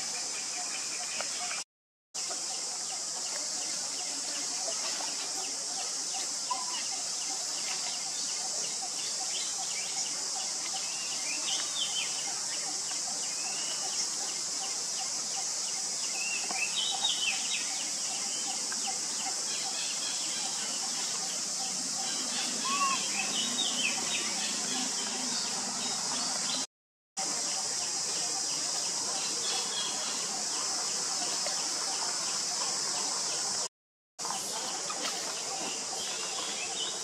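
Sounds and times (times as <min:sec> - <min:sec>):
high-pitched hiss: 0:02.2 - 0:37.0.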